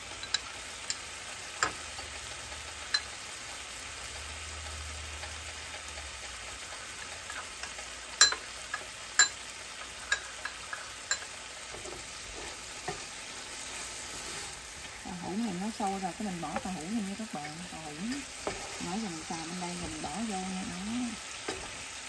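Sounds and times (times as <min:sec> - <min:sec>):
tofu sizzling in a pan: 0:00.0 - 0:22.0.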